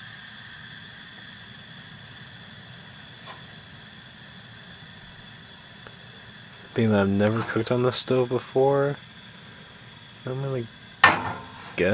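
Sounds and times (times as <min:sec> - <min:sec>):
gas burner hissing: 0:00.0 - 0:11.9.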